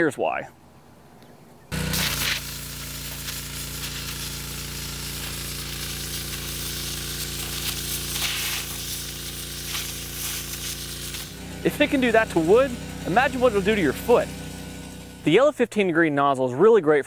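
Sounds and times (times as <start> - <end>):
pressure washer jet hissing: 1.7 - 15.4
pressure washer engine hum: 1.7 - 15.6.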